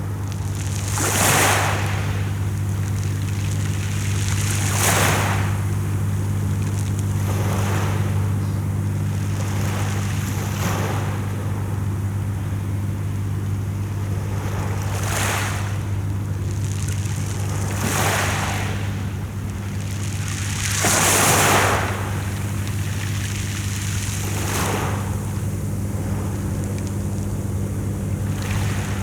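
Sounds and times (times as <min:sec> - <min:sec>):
sea waves washing in: 0:00.0 - 0:29.0
steady low hum: 0:00.0 - 0:29.0.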